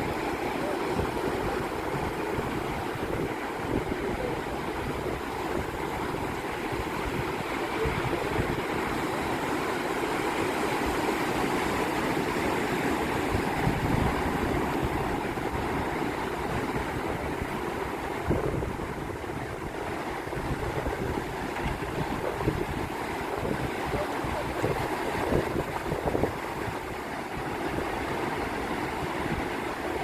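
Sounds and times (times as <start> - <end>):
waves breaking: 0.0 - 30.0
wind buffeting microphone: 0.0 - 30.0.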